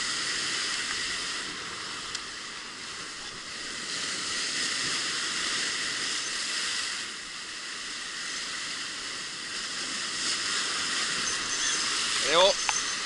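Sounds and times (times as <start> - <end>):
sea surf breaking on rocks: 0.0 - 13.0.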